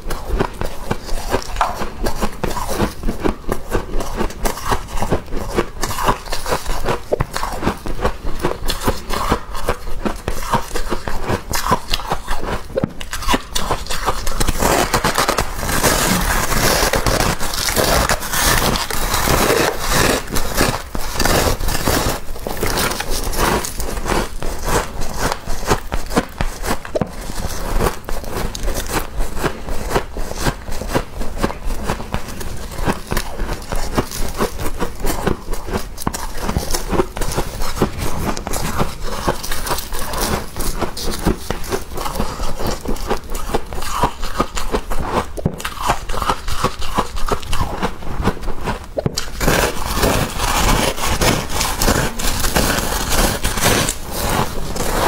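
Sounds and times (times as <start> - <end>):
chewing frost: 0.0 - 55.0
frost crunching and crackling: 0.0 - 55.0.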